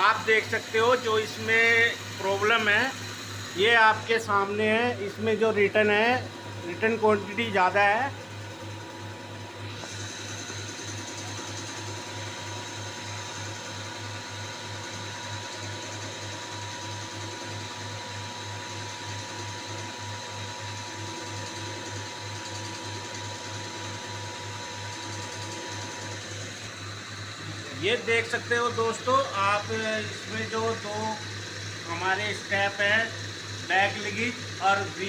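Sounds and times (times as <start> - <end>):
machine hum pulsing rapidly: 0.0 - 35.0.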